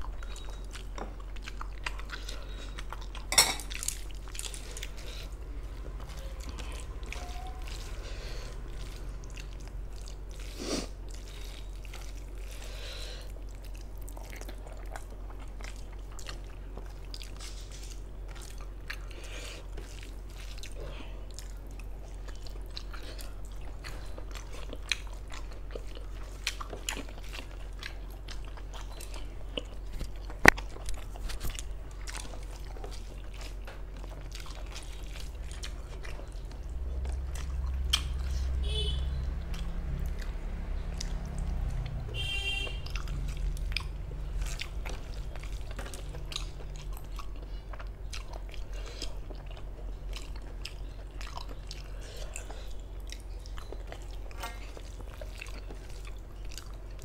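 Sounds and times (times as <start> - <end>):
close chewing mouth clicks: 0.0 - 57.0.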